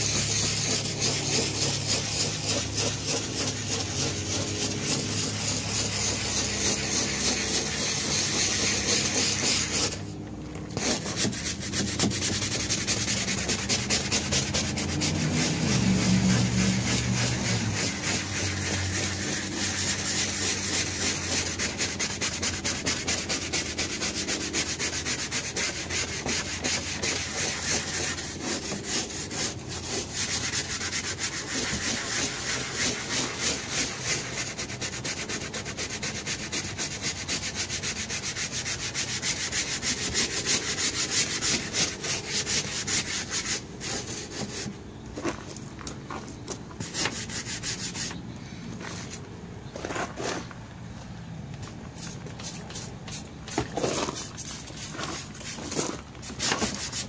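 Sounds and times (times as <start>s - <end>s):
brush scrubbing vinyl seat: 0.0s - 45.4s, 46.8s - 48.2s, 51.9s - 57.0s.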